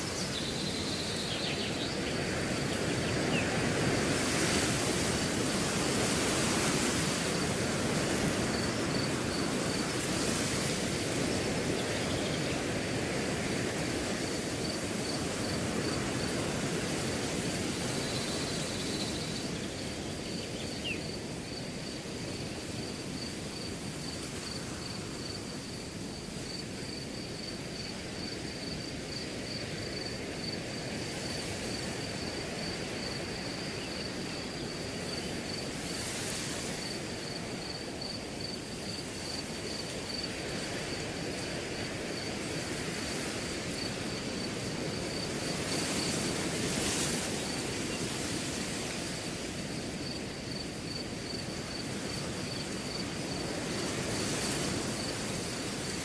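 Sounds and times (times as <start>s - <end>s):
crickets chirping: 0.0s - 56.0s
wind through grass: 0.0s - 56.0s.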